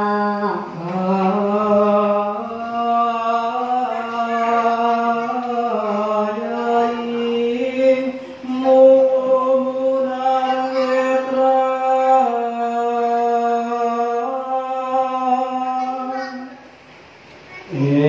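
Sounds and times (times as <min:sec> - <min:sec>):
person chanting long sung notes: 0:00.0 - 0:16.3.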